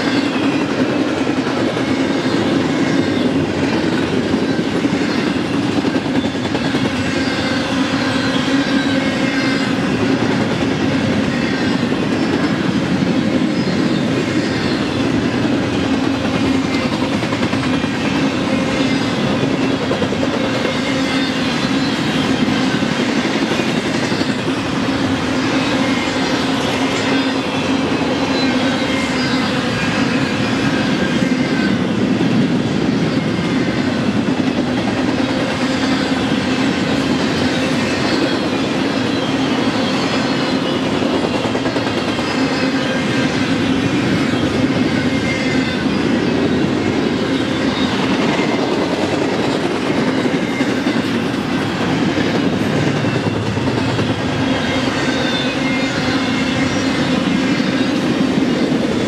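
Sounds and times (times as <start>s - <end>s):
steel wheels rumbling on track: 0.0s - 59.0s
wheels clickety-clack: 0.0s - 59.0s
faint high wheel squeals: 1.8s - 17.1s, 18.0s - 32.0s, 35.3s - 59.0s.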